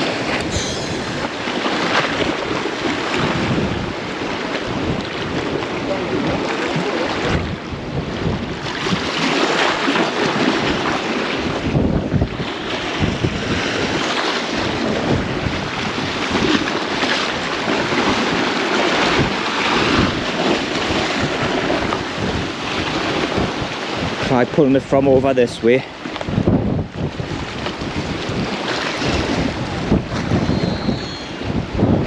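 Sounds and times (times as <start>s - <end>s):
waves washing on shore: 0.0s - 32.0s
wind buffeting microphone: 0.0s - 32.0s.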